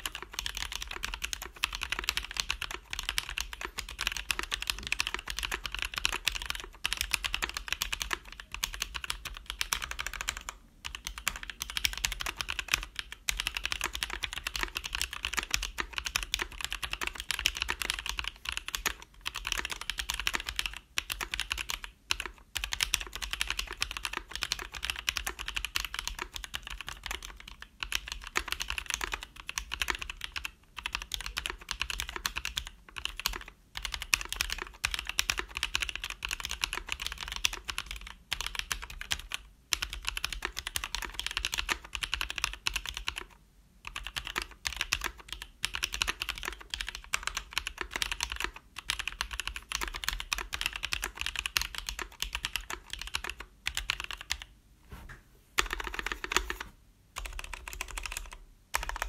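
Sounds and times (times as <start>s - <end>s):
mechanical keyboard typing: 0.0s - 54.5s, 55.6s - 59.0s.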